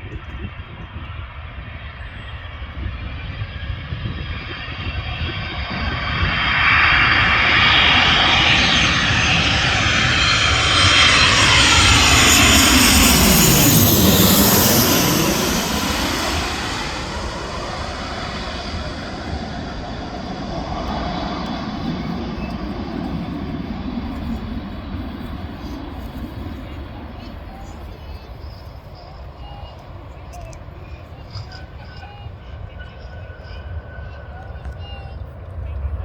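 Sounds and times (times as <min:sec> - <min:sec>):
jet airliner passing close: 0:00.0 - 0:36.0.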